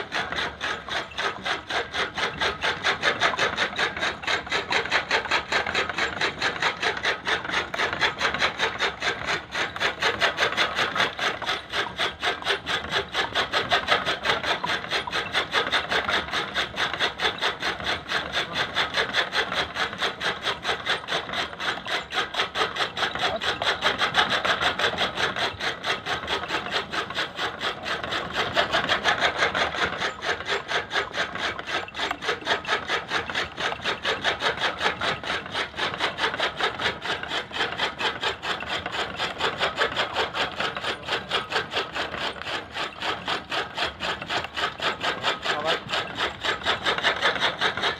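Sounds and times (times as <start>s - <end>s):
chaff cutter blades chopping: 0.0s - 47.9s.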